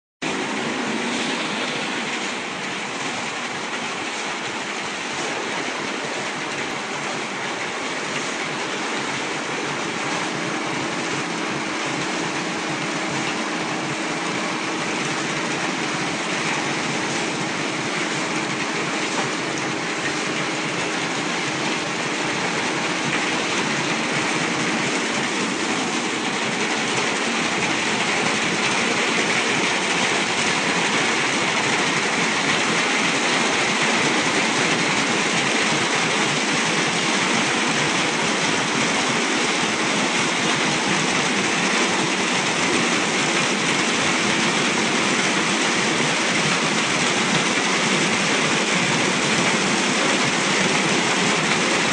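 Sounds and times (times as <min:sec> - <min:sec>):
car wash machinery running: 0:00.2 - 0:51.9.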